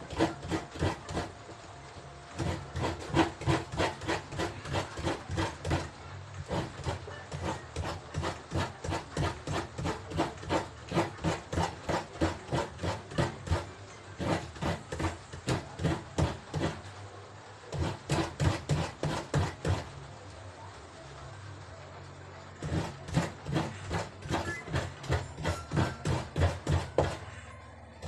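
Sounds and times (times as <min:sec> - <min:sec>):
coconut grating rasping strokes: 0:00.0 - 0:01.6, 0:02.3 - 0:16.8, 0:17.7 - 0:19.9, 0:22.6 - 0:27.4.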